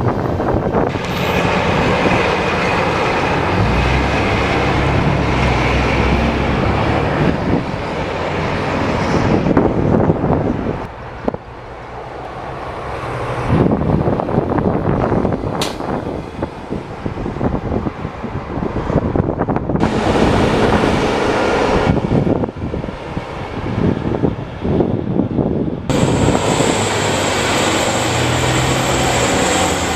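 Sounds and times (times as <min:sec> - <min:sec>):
heavy trucks driving by: 0:00.0 - 0:29.9.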